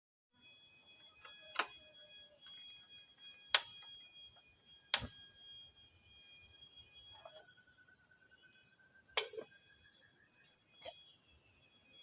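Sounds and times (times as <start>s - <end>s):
chorus of forest insects: 0.4s - 12.0s.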